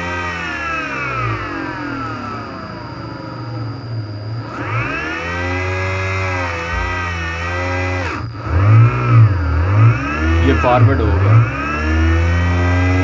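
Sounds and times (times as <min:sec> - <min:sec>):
low hum: 0:00.0 - 0:12.2
electric motor whine: 0:00.0 - 0:13.0.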